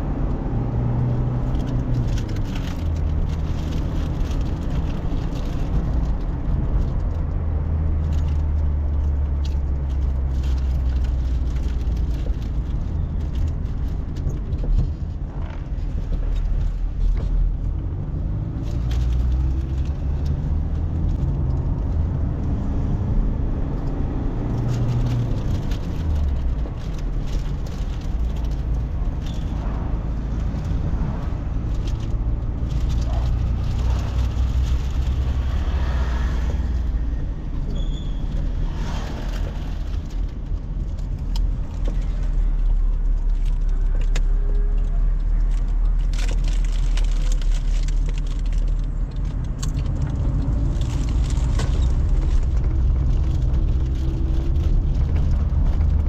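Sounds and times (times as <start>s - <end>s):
car engine and road hum: 0.0s - 56.0s
small clicks and rattles: 1.4s - 22.1s, 23.8s - 36.9s, 37.6s - 56.0s.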